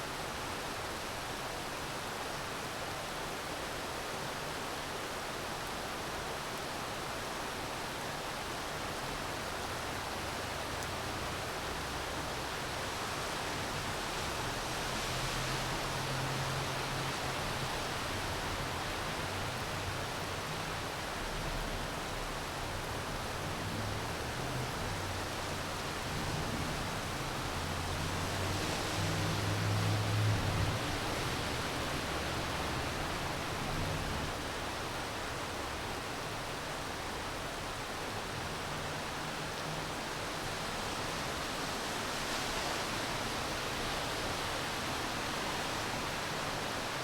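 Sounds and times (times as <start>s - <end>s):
steady rainfall: 0.0s - 47.0s.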